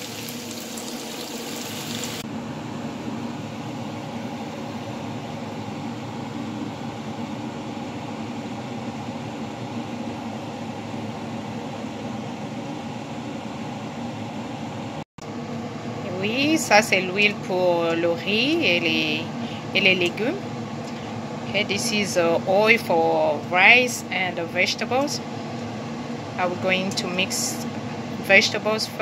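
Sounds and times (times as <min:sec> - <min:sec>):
range hood fan humming: 0:00.0 - 0:29.0.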